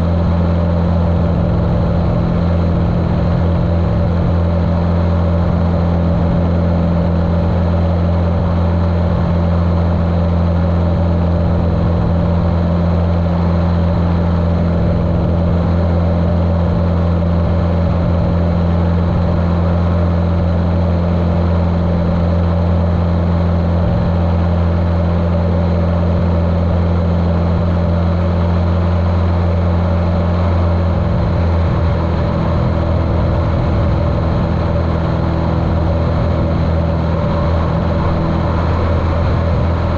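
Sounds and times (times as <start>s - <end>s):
muffled airplane engine drone: 0.0s - 39.9s.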